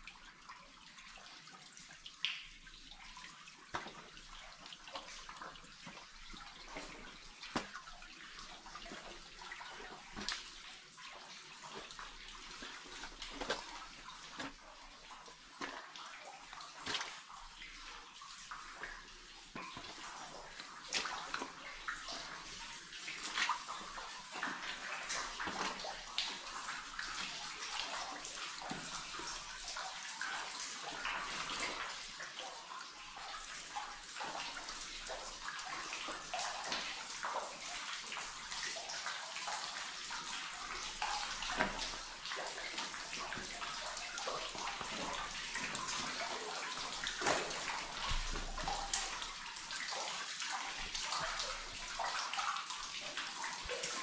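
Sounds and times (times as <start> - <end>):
water running and splashing: 0.0 - 54.0.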